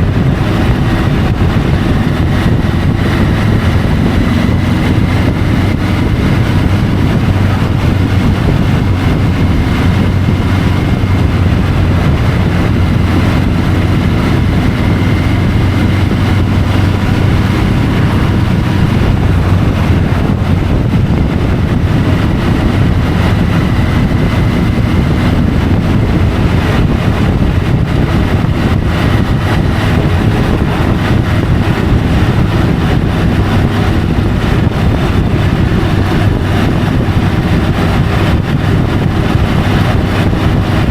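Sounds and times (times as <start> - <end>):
background rush: 0.0 - 40.9
motorcycle engine running: 0.0 - 40.9.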